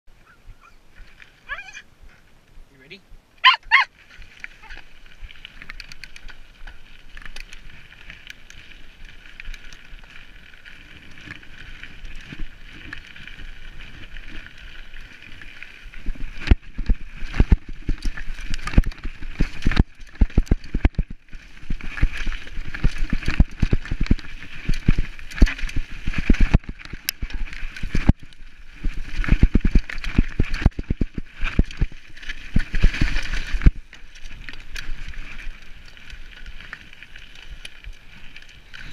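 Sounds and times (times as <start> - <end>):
bike rattling over rocks: 3.4 - 38.9.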